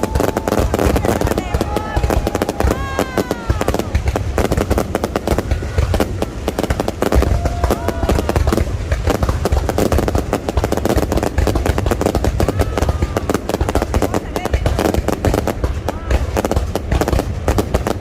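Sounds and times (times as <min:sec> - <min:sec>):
crowd voices: 0:00.0 - 0:18.0
fireworks bangs and crackles: 0:00.0 - 0:18.0.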